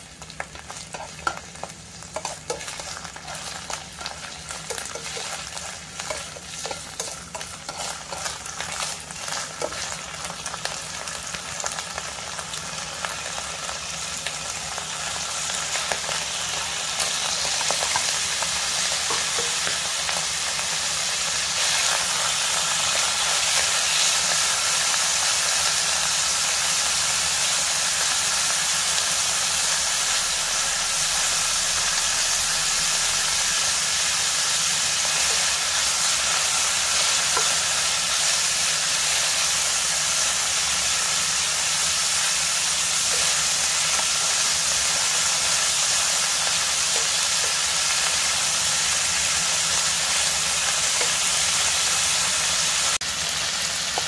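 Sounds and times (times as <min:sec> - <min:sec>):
meat frying in a pan: 0:00.0 - 0:54.0.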